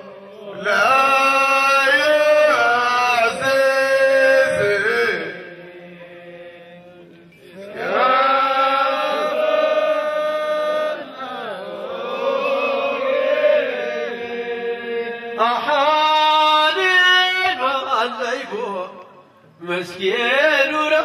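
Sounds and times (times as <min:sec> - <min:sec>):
men chanting in unison: 0:00.0 - 0:18.9.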